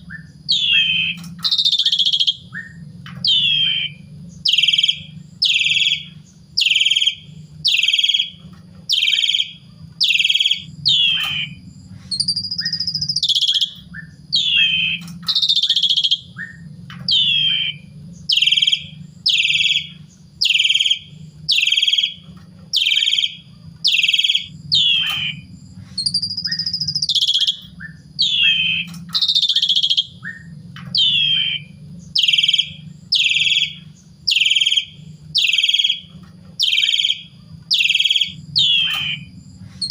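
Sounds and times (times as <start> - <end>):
low hum: 0.0 - 39.9
starling calling: 0.0 - 39.9
whistled bird phrases: 0.0 - 39.9.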